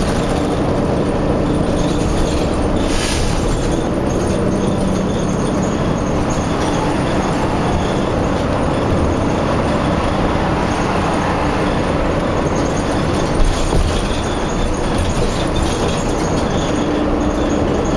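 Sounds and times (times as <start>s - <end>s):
heavy vehicles rumbling: 0.0s - 17.9s.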